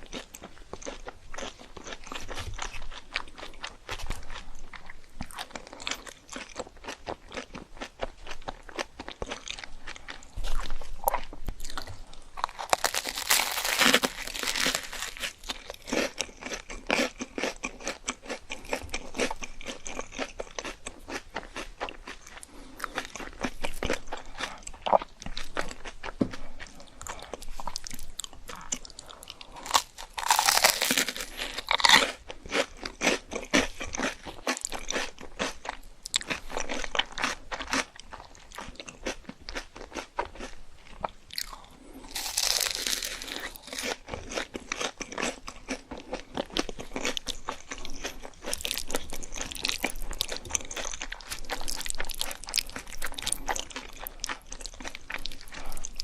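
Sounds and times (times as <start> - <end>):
chewing crispy food: 0.0 - 56.0.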